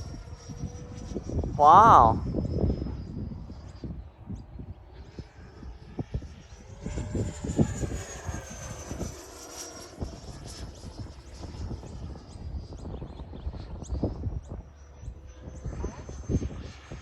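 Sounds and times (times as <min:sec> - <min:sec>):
wind rumbling on microphone: 0:00.0 - 0:09.2, 0:09.9 - 0:17.0
electric ducted fan jet whine: 0:00.0 - 0:17.0.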